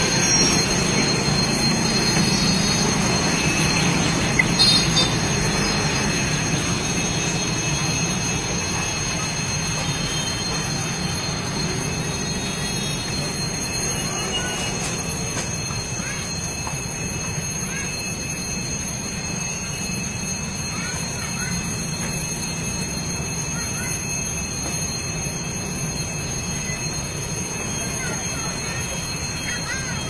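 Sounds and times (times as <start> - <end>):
high wheel squeal: 0.0 - 30.0
train rumble: 0.0 - 30.0.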